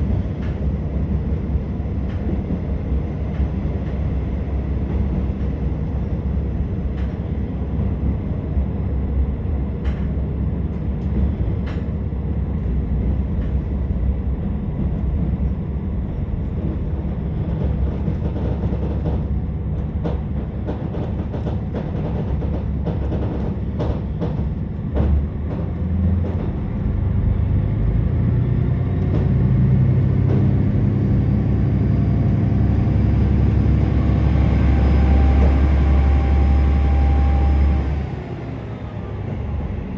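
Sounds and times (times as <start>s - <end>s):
railcar engine and wheels rumble: 0.0s - 39.9s.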